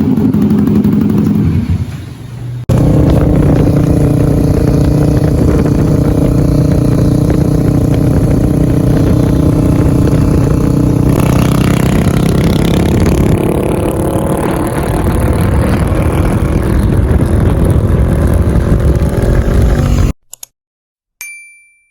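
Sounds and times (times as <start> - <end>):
loud motorcycle engine running: 0.0 - 1.9, 2.6 - 20.2.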